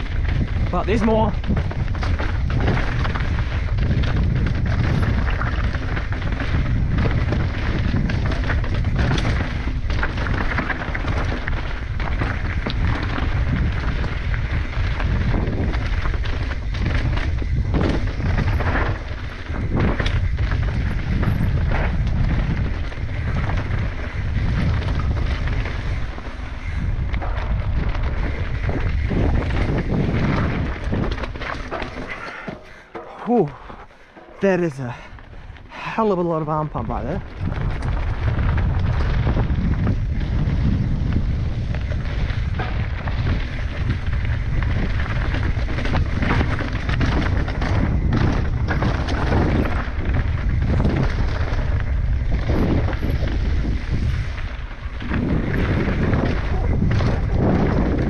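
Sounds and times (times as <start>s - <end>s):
bike clattering over rocks: 0.0s - 33.2s, 37.0s - 58.0s
wind rumble on microphone: 0.0s - 58.0s.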